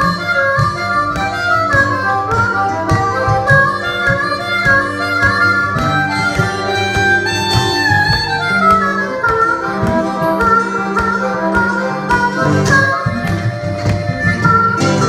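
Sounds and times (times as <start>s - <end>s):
blues harmonica solo: 0.0s - 15.0s
guitars strumming: 0.0s - 15.0s.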